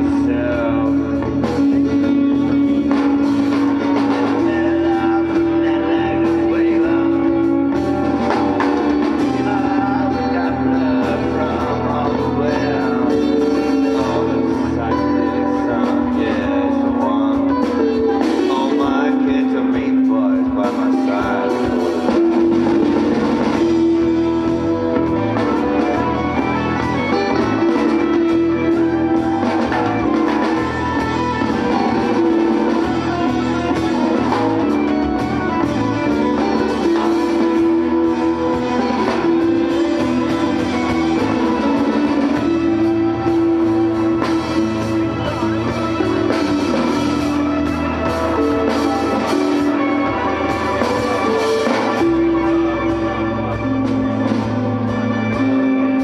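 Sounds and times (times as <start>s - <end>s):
drum kit beat: 0.0s - 56.0s
electric bass: 0.0s - 56.0s.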